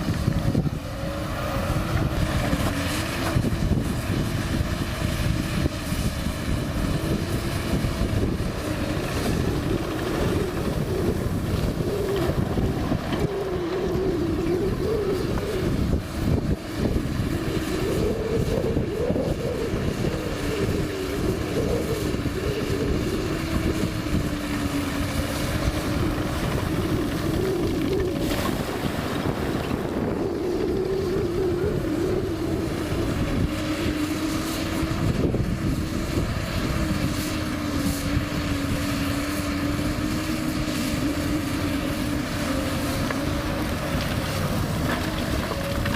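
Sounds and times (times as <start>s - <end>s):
excavator diesel engine under load: 0.0s - 45.9s.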